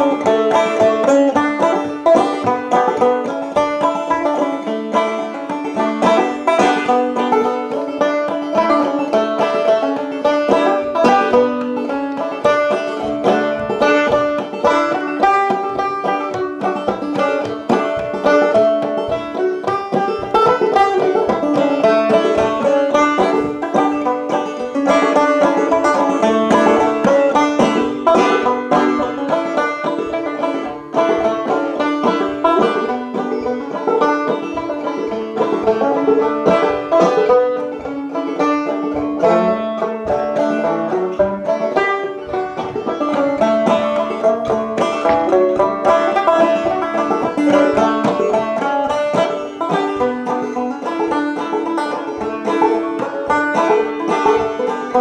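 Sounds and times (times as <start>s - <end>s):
banjo picking: 0.0s - 55.0s.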